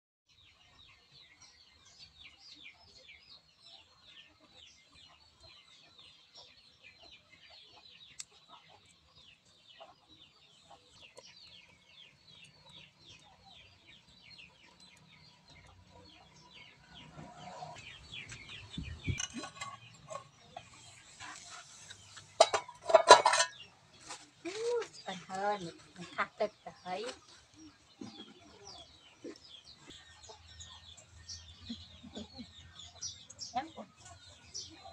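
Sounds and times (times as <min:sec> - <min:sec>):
chicks peeping: 0:00.4 - 0:22.4, 0:23.6 - 0:34.9.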